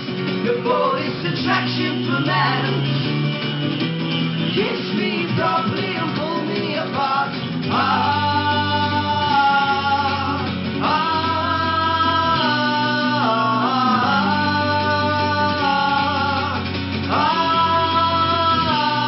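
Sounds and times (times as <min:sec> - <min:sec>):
guitar: 0:00.0 - 0:19.0
live rock band playing: 0:00.0 - 0:19.0.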